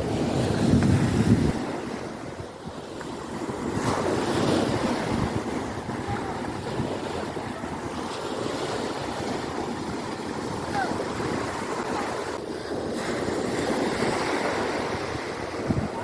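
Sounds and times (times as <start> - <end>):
sea waves washing in: 0.0 - 16.0
wind buffeting microphone: 0.0 - 16.0.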